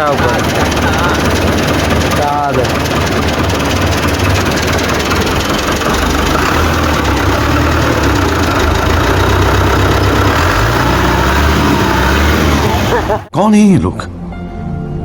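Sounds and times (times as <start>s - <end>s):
diesel tractor engine idling: 0.0s - 13.3s.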